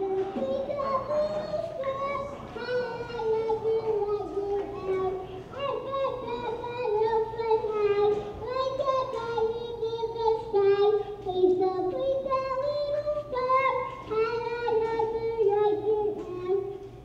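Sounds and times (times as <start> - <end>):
girl singing into microphone: 0.0 - 17.0.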